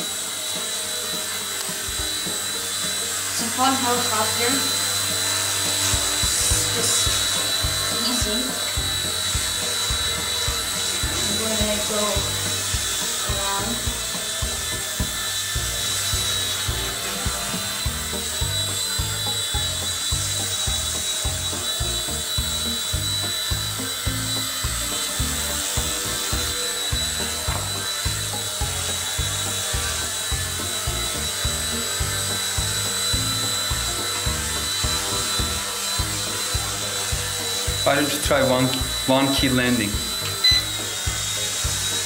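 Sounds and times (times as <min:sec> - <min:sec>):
toy helicopter motors whining: 0:00.0 - 0:42.0
background music with beat: 0:05.1 - 0:42.0.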